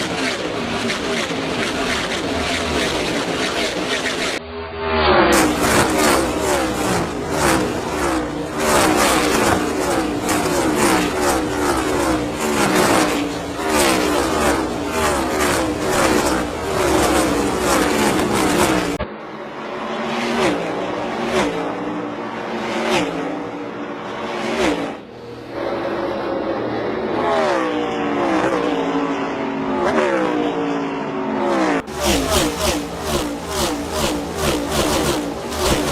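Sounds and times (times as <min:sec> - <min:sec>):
race car engines passing: 0:00.0 - 0:35.9.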